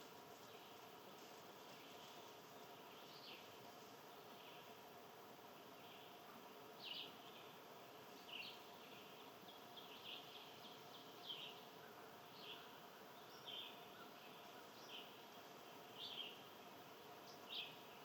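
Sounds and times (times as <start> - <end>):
low background hiss: 0.0 - 18.0.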